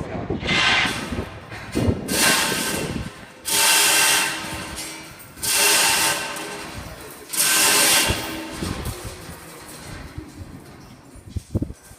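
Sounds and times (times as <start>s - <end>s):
hoisting gear mechanical noise: 0.4s - 11.9s.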